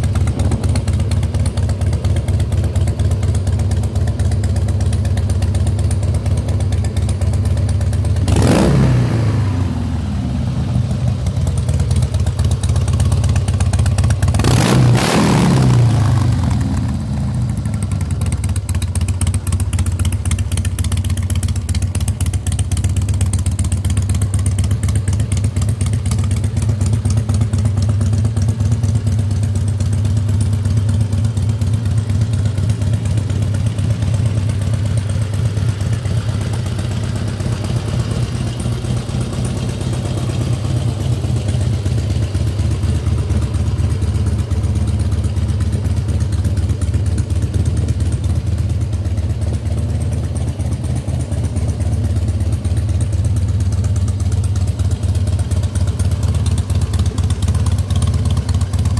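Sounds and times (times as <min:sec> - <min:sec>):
motorcycle engine idling: 0:00.0 - 0:58.9.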